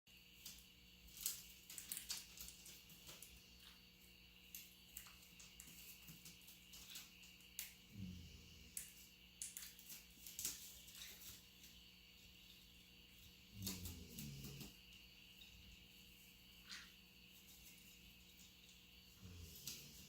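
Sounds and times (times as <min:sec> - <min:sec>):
faint steady hum: 0:00.1 - 0:20.0.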